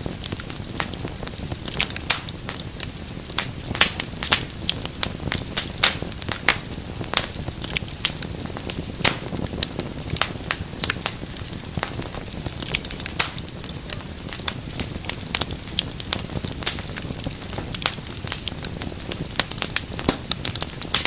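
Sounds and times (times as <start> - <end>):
low rumble of flame: 0.0 - 21.0
wood fire crackling and popping: 0.0 - 21.0.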